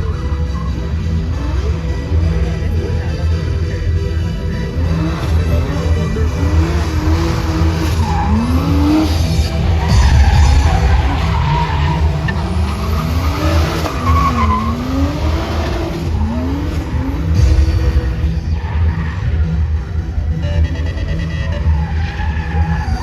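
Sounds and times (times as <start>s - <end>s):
car engines revving: 0.0s - 23.0s
tyres screeching: 0.0s - 23.0s.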